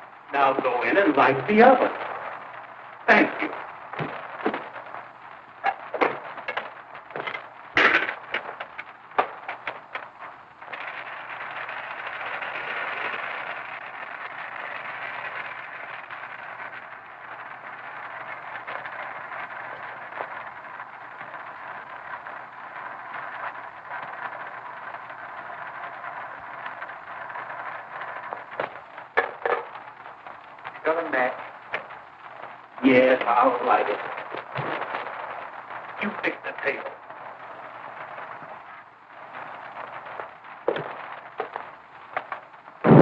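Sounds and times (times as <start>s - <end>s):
knocks and clatter: 0.5s - 43.0s.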